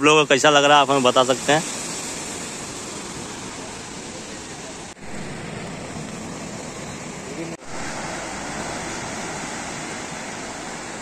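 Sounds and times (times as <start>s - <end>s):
sea surf washing onto shore: 0.0s - 11.0s.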